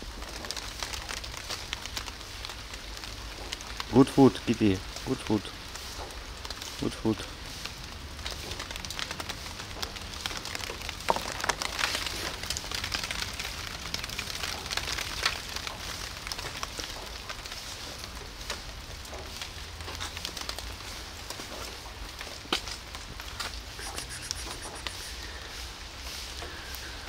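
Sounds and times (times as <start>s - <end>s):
light rain pattering: 0.0s - 27.0s
sharp drips and ticks: 0.1s - 27.0s.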